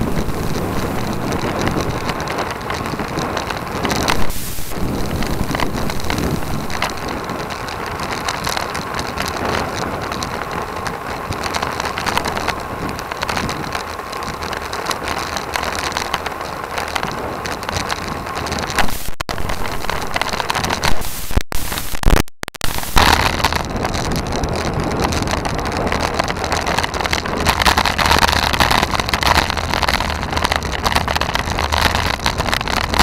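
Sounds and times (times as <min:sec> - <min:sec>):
tyre and road rattle: 0:00.0 - 0:21.1, 0:22.8 - 0:33.0
wind rushing over microphone: 0:00.0 - 0:33.0.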